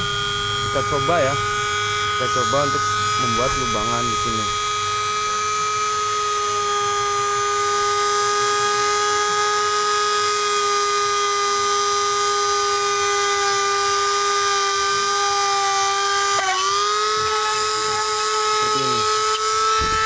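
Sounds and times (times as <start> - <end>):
rotary tool whining: 0.0 - 20.0.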